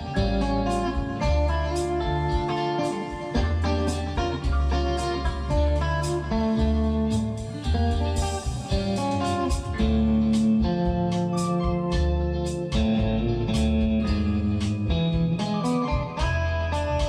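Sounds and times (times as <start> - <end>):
blues band music with guitar: 0.0 - 17.0.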